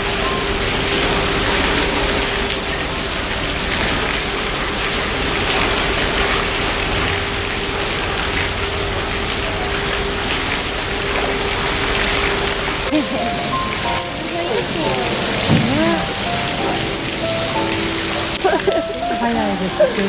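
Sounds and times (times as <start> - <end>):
water rushing and splashing: 0.0 - 20.0.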